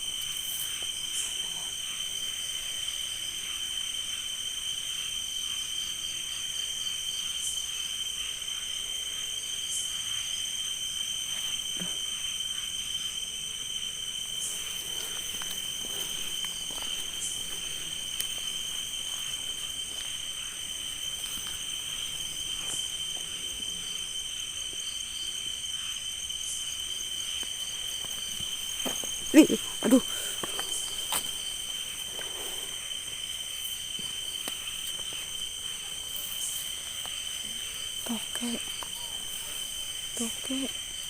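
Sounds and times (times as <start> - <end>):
night insects singing: 0.0 - 41.0.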